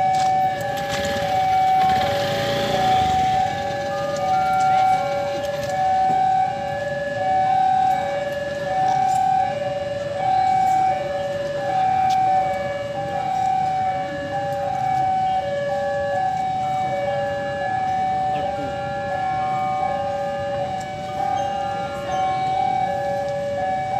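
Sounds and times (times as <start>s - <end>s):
two-tone level-crossing alarm: 0.0s - 23.9s.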